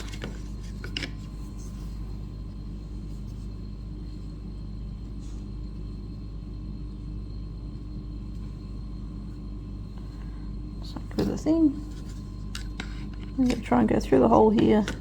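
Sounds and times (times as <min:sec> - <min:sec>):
faint hum tones: 0:00.0 - 0:15.0.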